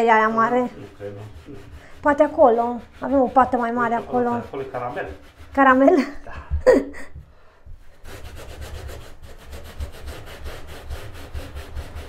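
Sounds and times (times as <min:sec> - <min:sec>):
brush scrubbing carpet: 0:00.0 - 0:06.2, 0:07.8 - 0:12.0.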